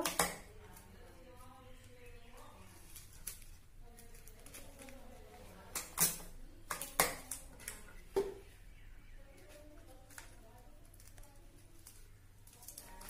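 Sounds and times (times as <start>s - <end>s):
handling of paper and straws: 0.6s - 8.6s, 9.2s - 13.0s.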